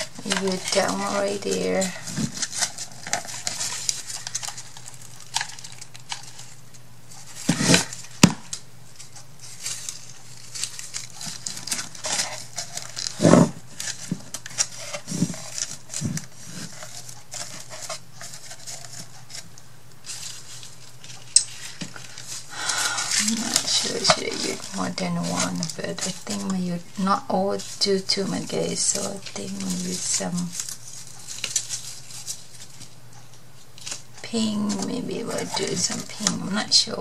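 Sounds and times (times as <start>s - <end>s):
hands handling craft supplies: 0.0s - 6.6s, 7.2s - 32.9s, 33.8s - 37.0s.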